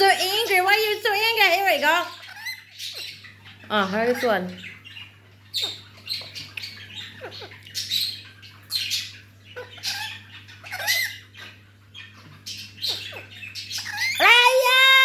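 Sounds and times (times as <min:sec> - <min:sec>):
parrot squawking: 0:00.0 - 0:15.0.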